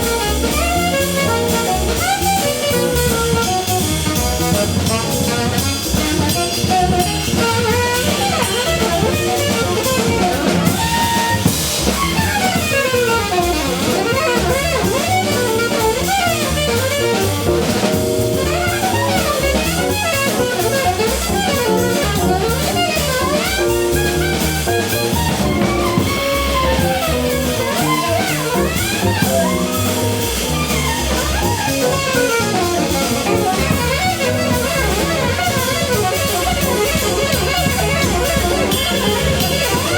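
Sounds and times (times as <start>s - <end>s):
bass: 0.0s - 39.9s
drum kit: 0.0s - 39.9s
saxophone runs: 0.0s - 39.9s.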